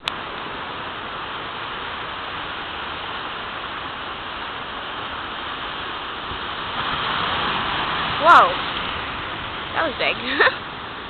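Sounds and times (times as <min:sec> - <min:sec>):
heavy surf breaking: 0:00.0 - 0:11.0.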